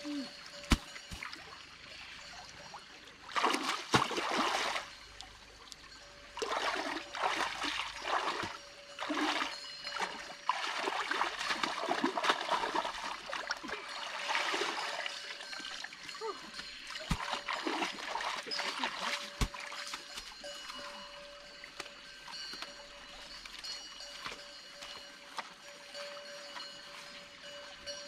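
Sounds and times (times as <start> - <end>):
water splashing in a stream: 0.3 - 26.4.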